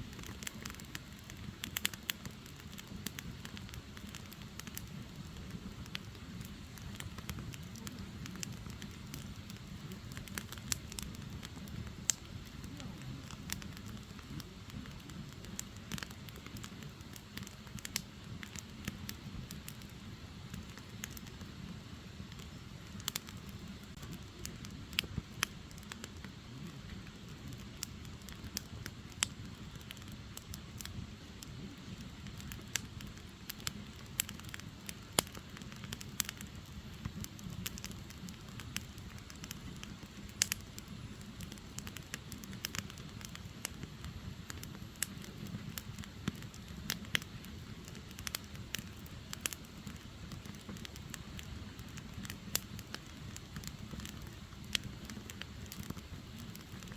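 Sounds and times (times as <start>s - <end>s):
fire burning with crackles: 0.0s - 56.9s.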